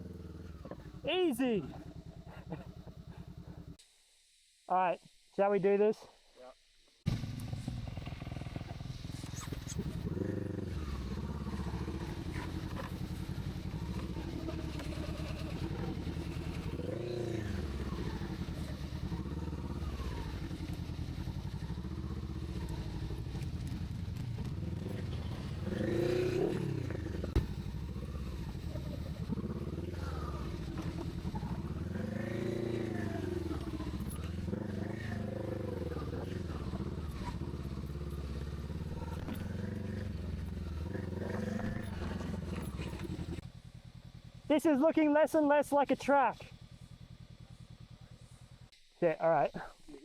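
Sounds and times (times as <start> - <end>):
motorcycle engine revving: 0.0 - 3.8, 7.1 - 45.1, 45.8 - 48.9.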